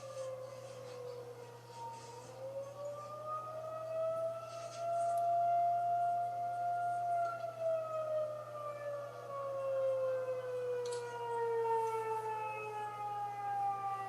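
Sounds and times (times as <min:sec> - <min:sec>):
warning siren winding down: 0:00.0 - 0:14.0.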